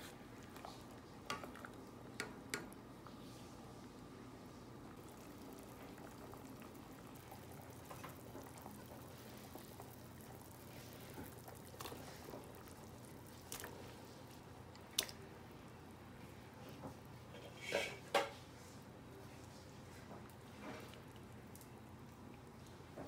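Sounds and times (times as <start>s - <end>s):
soup bubbling in a pot: 0.2s - 23.0s.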